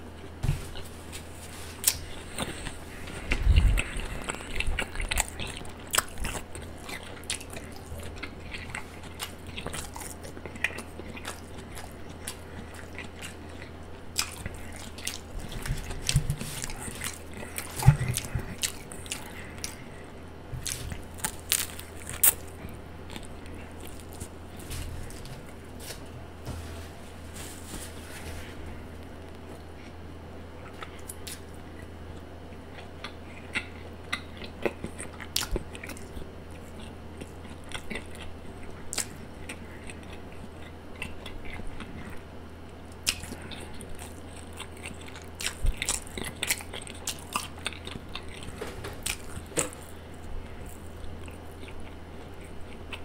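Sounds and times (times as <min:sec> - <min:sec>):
chewing and biting food: 0:00.0 - 0:26.1, 0:28.7 - 0:53.0.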